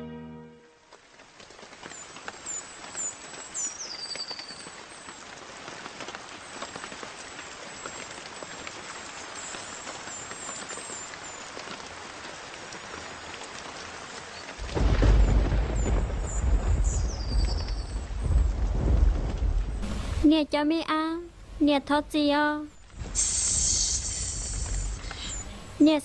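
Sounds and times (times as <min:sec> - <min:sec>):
rain falling: 0:00.7 - 0:26.0.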